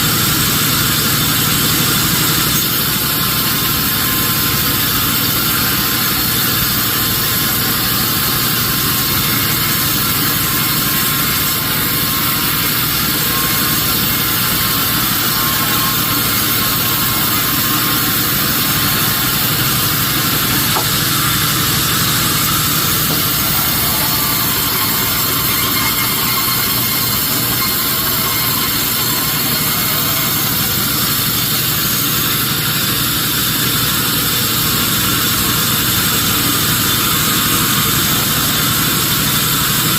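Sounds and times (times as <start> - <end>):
sawmill machinery drone and hiss: 0.0 - 39.9.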